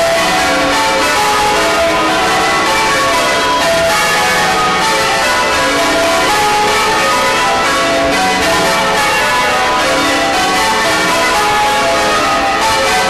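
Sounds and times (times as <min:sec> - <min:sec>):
many bells ringing: 0:00.0 - 0:13.0.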